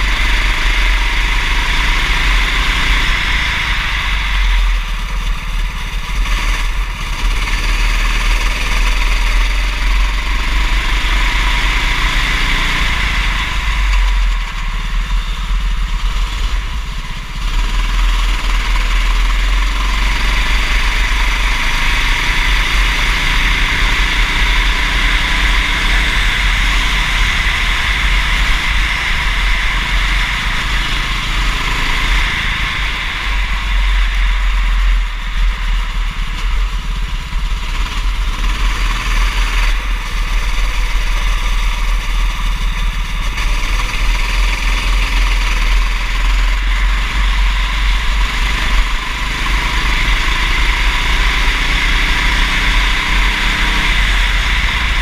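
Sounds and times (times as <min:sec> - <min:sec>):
go-kart engine revving: 0:00.0 - 0:55.0
heavy low rumble: 0:00.0 - 0:55.0.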